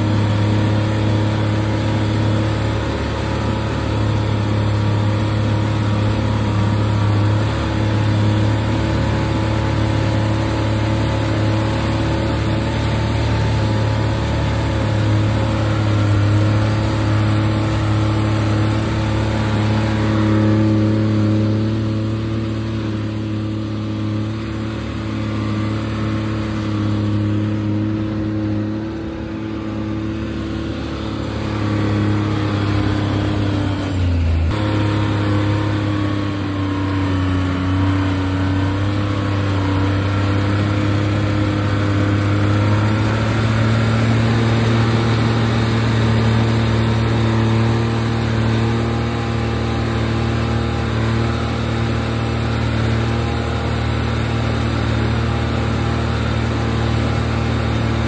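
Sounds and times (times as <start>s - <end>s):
skidder engine running: 0.0s - 58.0s.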